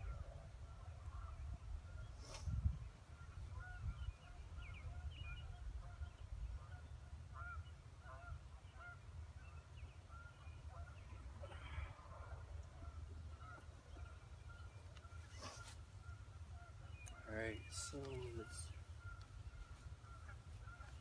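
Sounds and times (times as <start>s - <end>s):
short bird calls: 3.2s - 21.0s.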